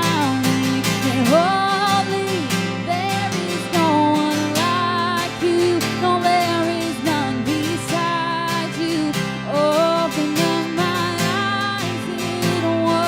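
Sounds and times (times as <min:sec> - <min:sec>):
person singing: 0:00.0 - 0:13.0
strummed acoustic guitar: 0:00.0 - 0:13.0.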